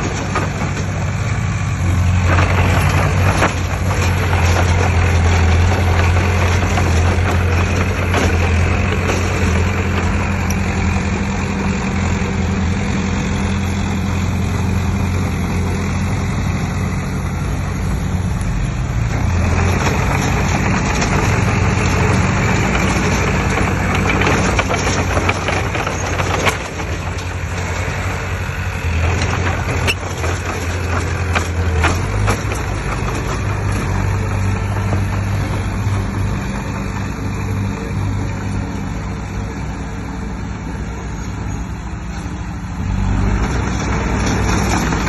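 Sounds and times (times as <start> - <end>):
rattling noise: 0.0 - 39.4, 41.6 - 45.0
heavy diesel engine running: 0.0 - 45.0.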